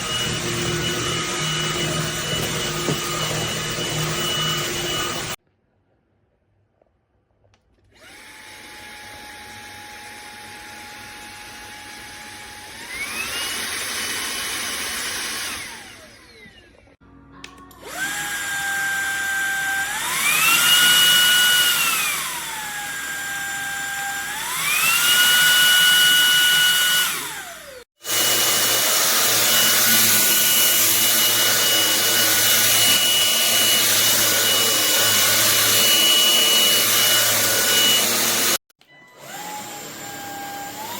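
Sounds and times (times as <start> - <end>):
vacuum motor whining hum: 0.0 - 5.4, 7.9 - 16.9, 17.8 - 40.9.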